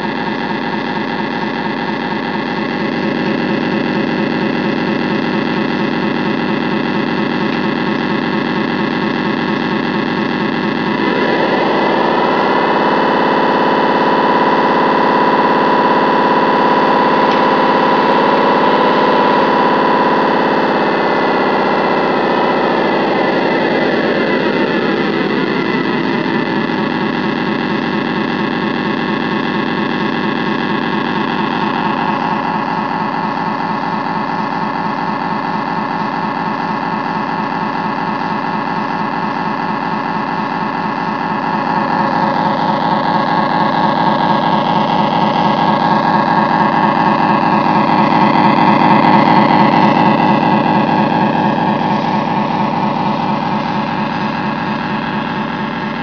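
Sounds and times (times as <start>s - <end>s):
electronic diesel engine sound: 0.0s - 56.0s.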